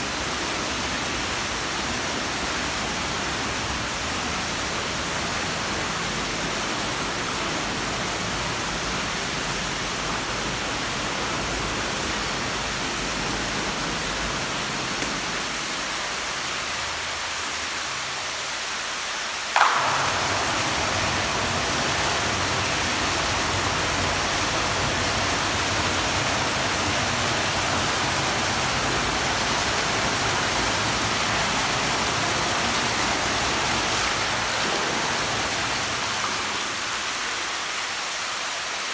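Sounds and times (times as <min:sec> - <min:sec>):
water falling and splashing: 0:00.0 - 0:38.9.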